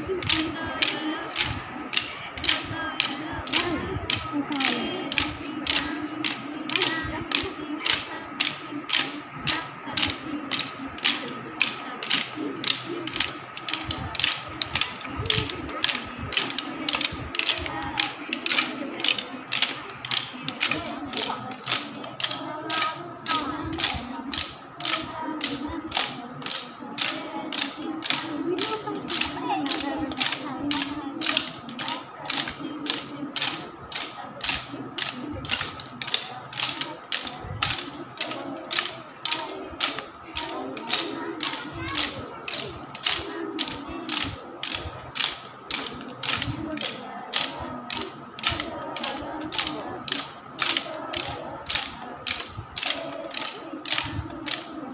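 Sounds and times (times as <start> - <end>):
wooden sticks clacking together: 0.2 - 54.9.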